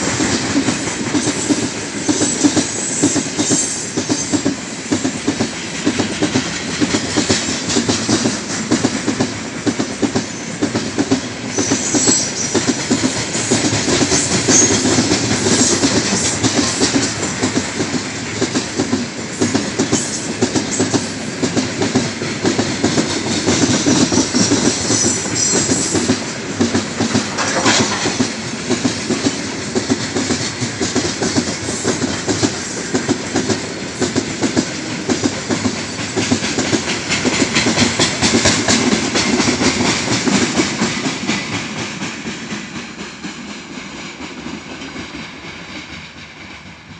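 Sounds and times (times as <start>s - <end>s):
wheels clacking over rail joints: 0.0s - 46.7s
freight train rumbling past: 0.0s - 46.9s.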